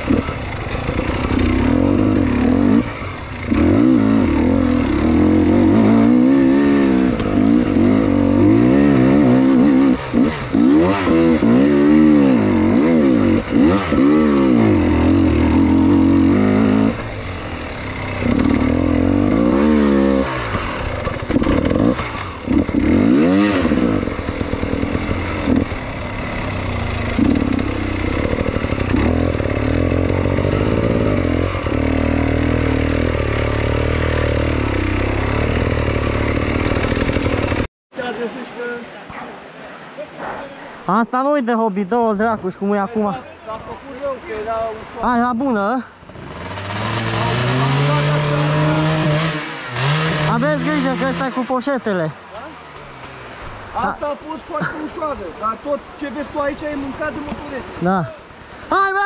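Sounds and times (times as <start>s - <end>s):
dirt bike engine revving: 0.0s - 37.7s, 41.6s - 58.3s.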